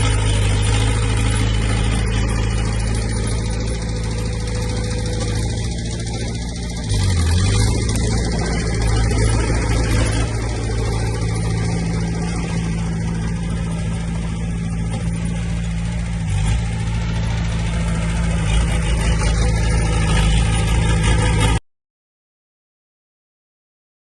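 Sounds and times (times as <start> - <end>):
diesel engine running steadily: 0.0 - 21.6.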